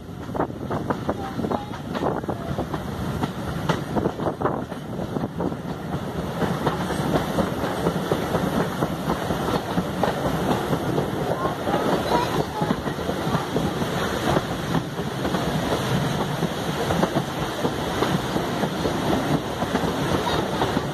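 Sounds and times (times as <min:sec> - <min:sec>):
rushing air: 0:00.0 - 0:20.9
train rumbling: 0:00.0 - 0:20.9
wheels clicking over rails: 0:00.2 - 0:20.9.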